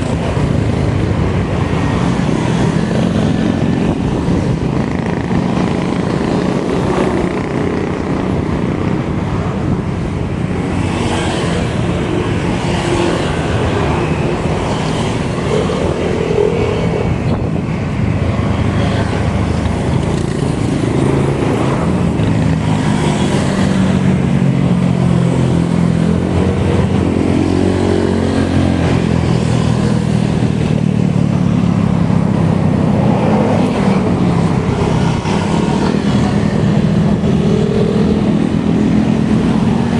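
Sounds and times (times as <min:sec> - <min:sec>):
road and wind rumble: 0:00.0 - 0:39.9.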